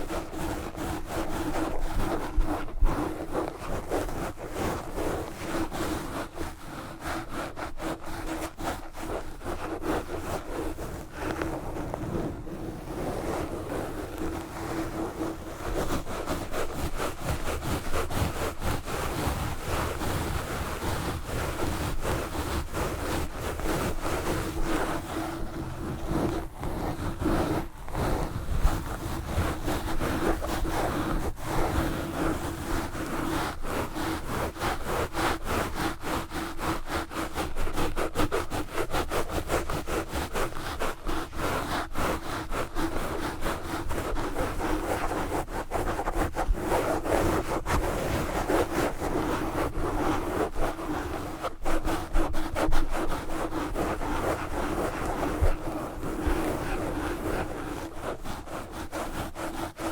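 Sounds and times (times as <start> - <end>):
gloves scratching on microphone: 0.0 - 59.9.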